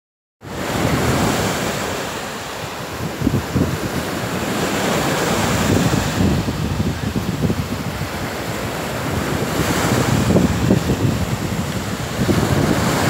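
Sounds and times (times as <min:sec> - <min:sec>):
waves breaking on a beach: 0:00.4 - 0:13.0
wind buffeting microphone: 0:00.5 - 0:13.0.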